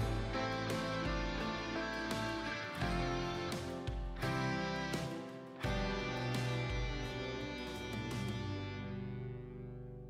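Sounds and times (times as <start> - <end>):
plucked string instrumental music: 0.0 - 10.0.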